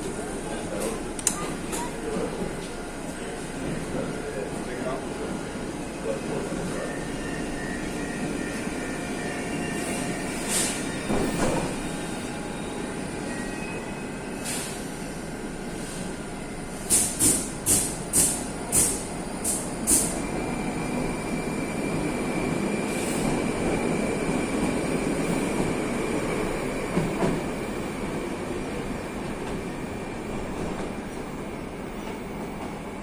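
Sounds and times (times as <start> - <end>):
metro train running: 0.0 - 33.0.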